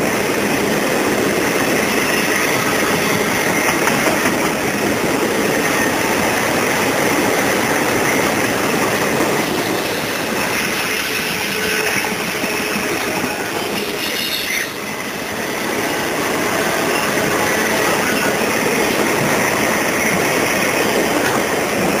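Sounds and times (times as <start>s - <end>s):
steel wheels on rails: 0.0s - 22.0s.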